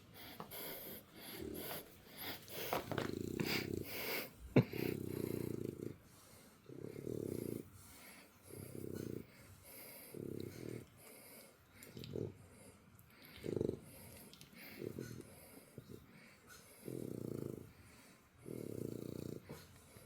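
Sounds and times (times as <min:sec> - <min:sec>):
puppy snoring: 0:00.0 - 0:20.0.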